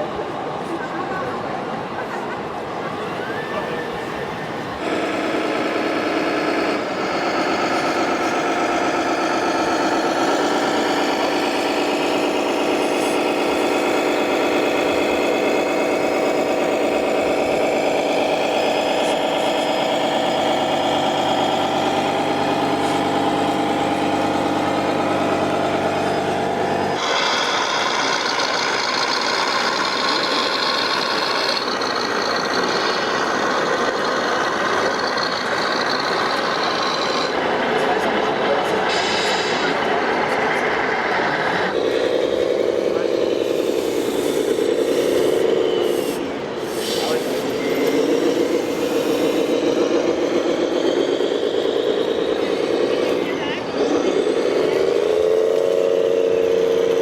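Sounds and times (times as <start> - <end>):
simulated diesel truck engine: 0.0 - 57.0.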